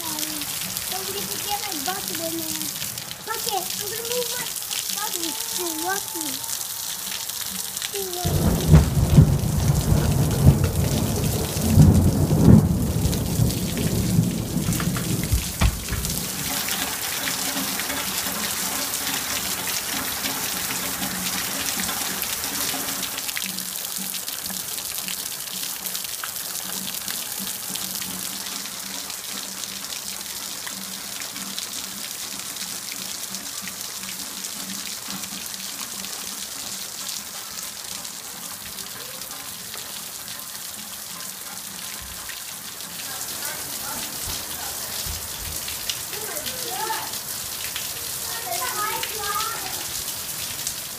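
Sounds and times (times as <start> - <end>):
heavy rain on concrete: 0.0 - 50.9.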